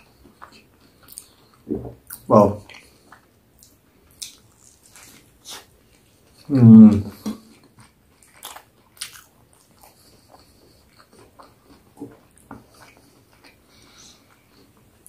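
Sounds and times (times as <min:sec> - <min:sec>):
crunchy chewing: 0:00.0 - 0:06.5, 0:07.1 - 0:15.0.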